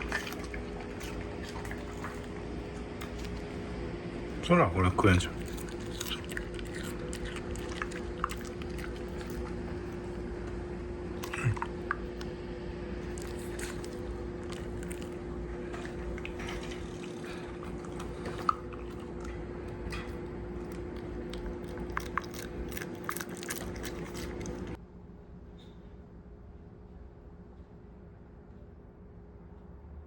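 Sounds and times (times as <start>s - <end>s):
dog chewing and crunching: 0.0s - 24.8s
steady low hum: 0.0s - 30.0s.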